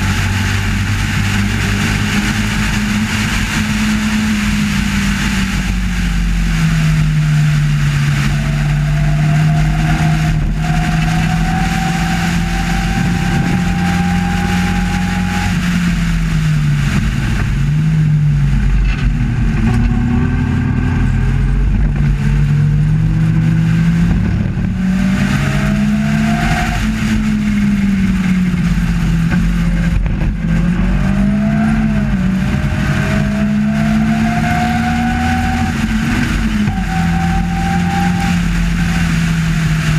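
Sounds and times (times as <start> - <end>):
racing car engine: 0.0 - 39.9.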